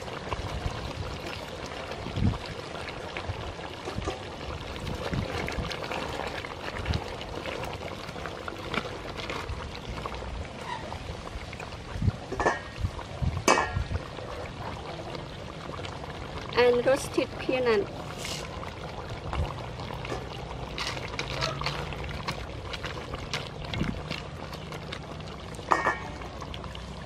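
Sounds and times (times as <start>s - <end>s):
curry bubbling in pot: 0.0s - 27.0s
wooden ladle stirring thick liquid: 0.0s - 27.0s.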